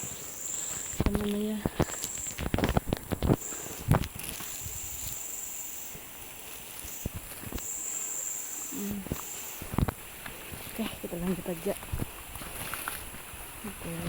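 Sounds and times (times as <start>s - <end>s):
faint outdoor hiss: 0.0s - 14.0s
insects buzzing: 0.0s - 14.0s.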